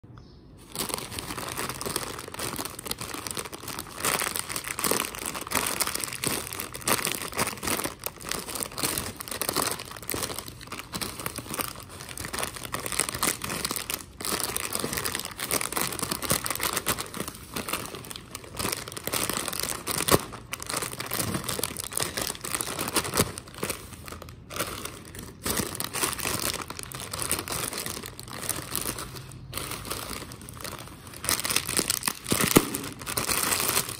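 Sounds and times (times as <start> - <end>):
plastic chip packets crinkling: 0.6 - 33.9.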